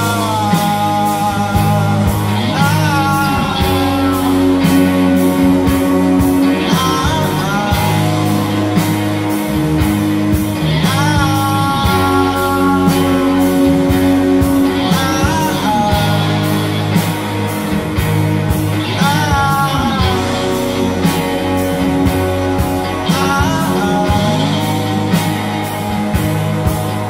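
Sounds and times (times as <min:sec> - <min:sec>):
electric guitar: 0:00.0 - 0:27.0
live rock band: 0:00.0 - 0:27.0.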